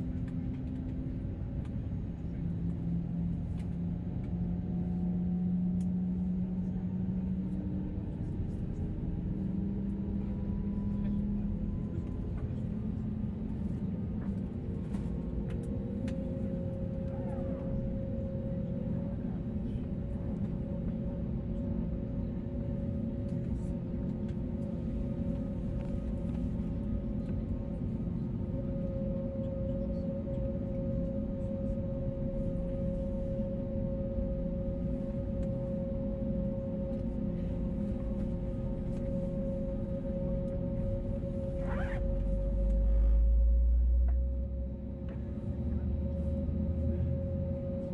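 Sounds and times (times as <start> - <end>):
jet engines heard from cabin: 0.0 - 47.9.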